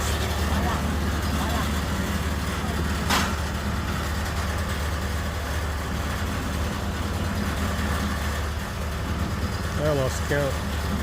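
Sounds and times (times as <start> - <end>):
concrete mixer engine drone: 0.0 - 11.0.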